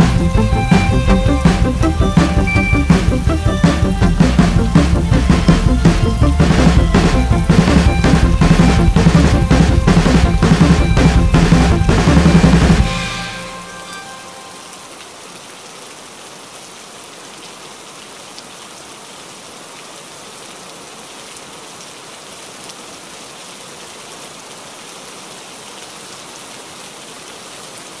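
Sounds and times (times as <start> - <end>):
steady rain hissing: 0.0 - 28.0.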